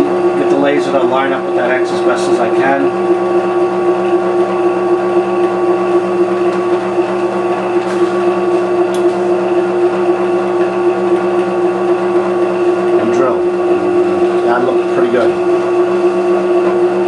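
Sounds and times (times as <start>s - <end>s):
drill press motor hum: 0.0s - 17.0s.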